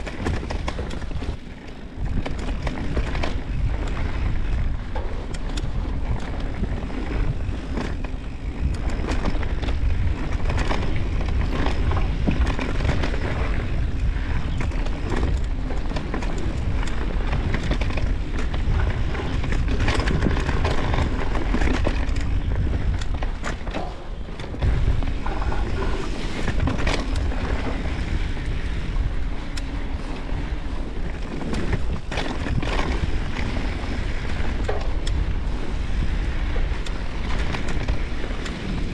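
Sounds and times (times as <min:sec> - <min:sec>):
bike clicks and rattles: 0:00.0 - 0:38.9
bike tyres rolling over dirt: 0:00.0 - 0:38.9
wind buffeting microphone: 0:00.0 - 0:38.9.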